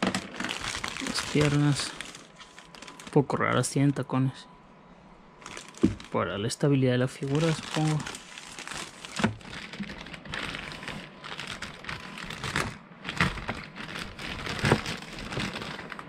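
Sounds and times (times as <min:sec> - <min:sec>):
plastic bags crinkling: 0:00.0 - 0:03.4, 0:05.4 - 0:06.2, 0:07.1 - 0:16.0.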